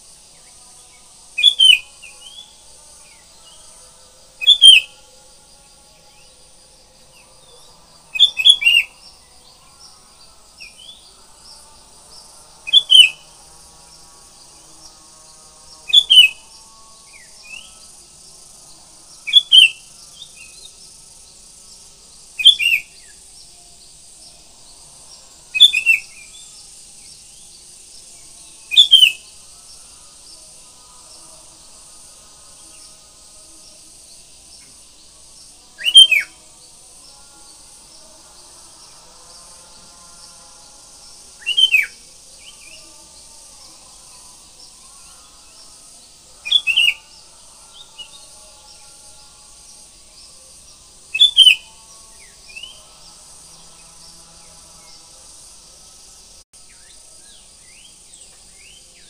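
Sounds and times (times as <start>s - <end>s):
high insect hiss: 0.0s - 59.0s.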